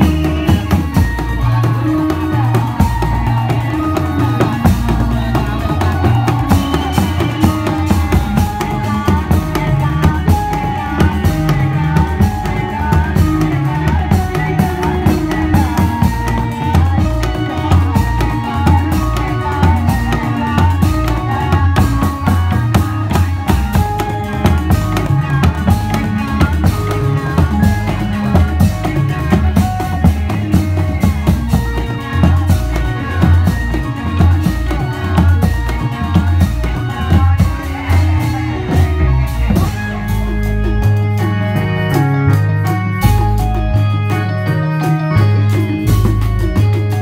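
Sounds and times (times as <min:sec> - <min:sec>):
heavy drum rhythm: 0:00.0 - 0:47.0.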